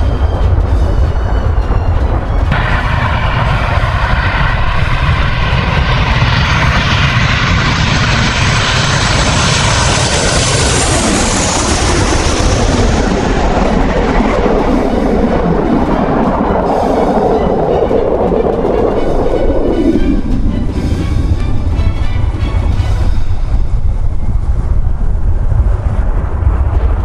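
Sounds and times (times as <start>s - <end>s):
fighter jet passing by: 0.0s - 27.0s.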